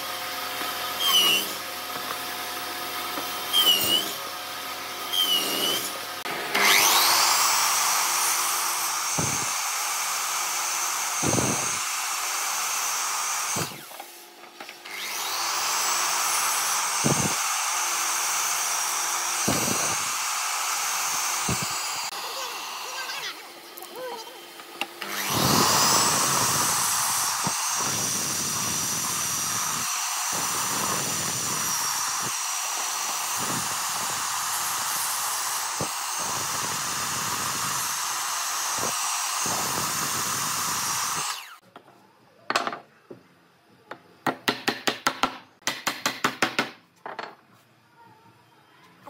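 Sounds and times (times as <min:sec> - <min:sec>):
miter saw whining: 0:00.0 - 0:14.1, 0:14.7 - 0:41.6.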